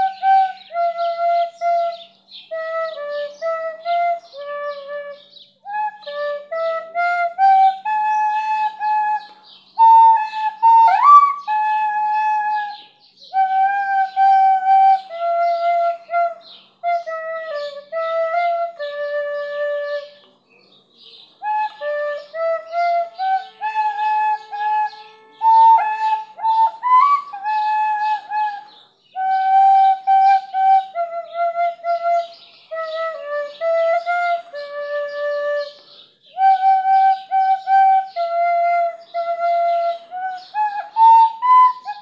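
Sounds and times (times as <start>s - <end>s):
recorder playing a melody: 0.0s - 20.2s, 21.4s - 42.0s.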